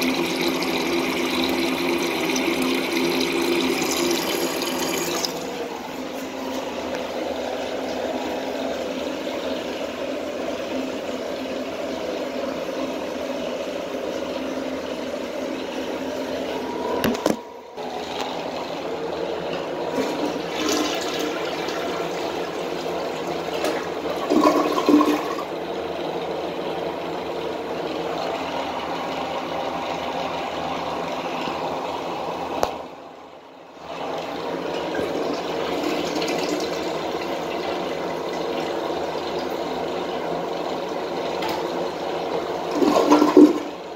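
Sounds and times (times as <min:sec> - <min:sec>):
toilet tank refilling: 0:00.0 - 0:43.9.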